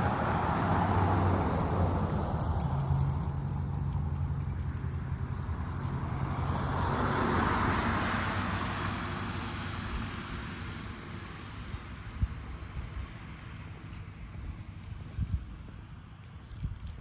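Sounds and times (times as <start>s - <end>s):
vehicle passing by: 0.0s - 17.0s.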